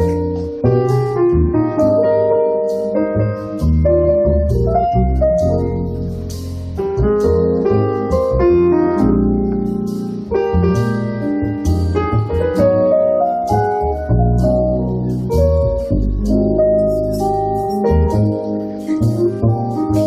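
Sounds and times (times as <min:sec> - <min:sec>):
piano: 0:00.0 - 0:20.0
small band playing: 0:00.0 - 0:20.0.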